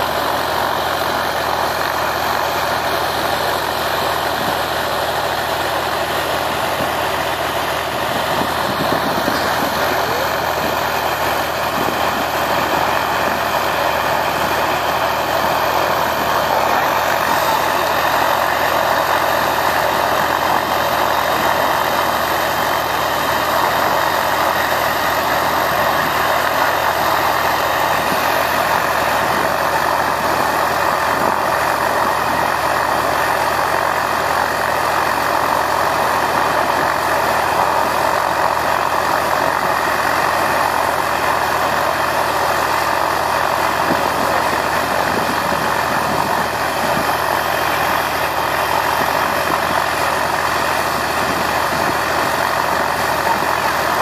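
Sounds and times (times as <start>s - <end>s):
helicopter idling: 0.0s - 54.0s.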